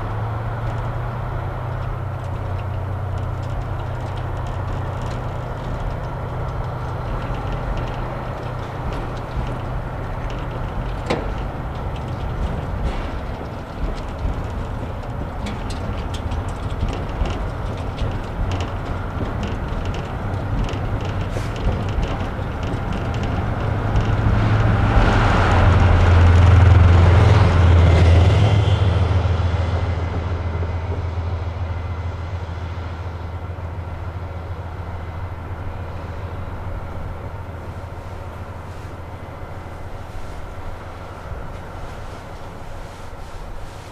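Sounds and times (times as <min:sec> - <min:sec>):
diesel train engine drone: 0:00.0 - 0:43.9
sharp clicks of train wheels: 0:00.0 - 0:43.9.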